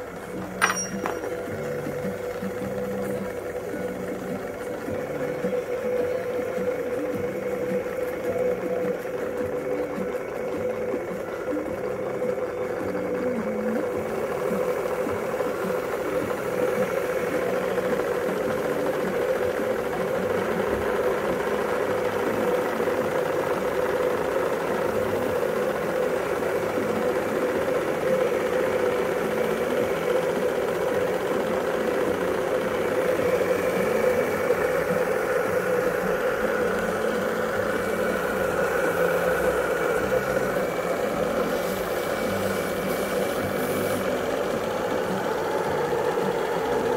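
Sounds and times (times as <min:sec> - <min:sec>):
model steam engine running: 0:00.0 - 0:46.9.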